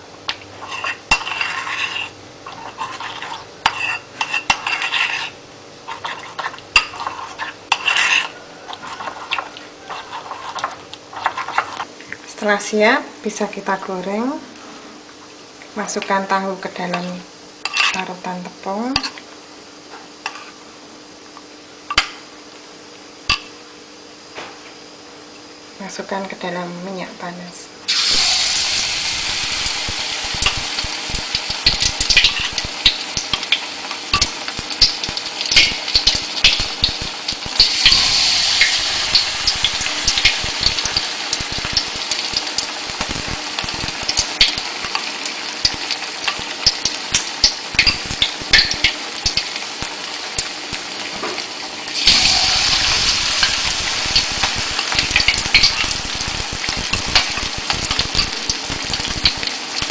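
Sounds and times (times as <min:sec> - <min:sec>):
frying in hot oil: 0:00.0 - 0:24.6, 0:25.2 - 0:59.9.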